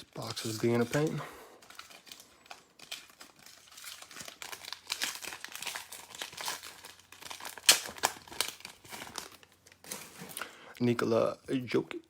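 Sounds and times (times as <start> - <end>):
packaging crinkling and tearing: 0.0 - 10.5.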